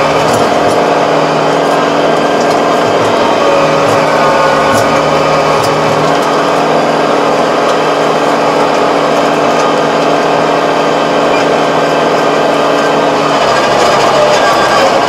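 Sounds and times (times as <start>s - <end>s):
tilling rotor rattling: 0.0s - 15.0s
tractor diesel engine running: 0.0s - 15.0s.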